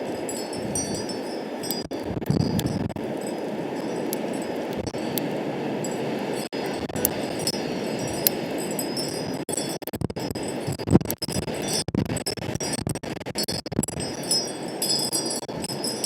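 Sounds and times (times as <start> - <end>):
high ringing tones: 0.0 - 10.8, 13.4 - 16.0
wind on microphone: 0.0 - 16.0.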